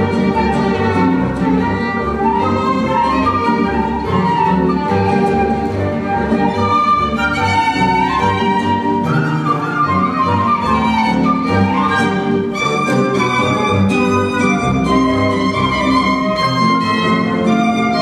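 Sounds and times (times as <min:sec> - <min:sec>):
violins playing melody: 0:00.0 - 0:18.0.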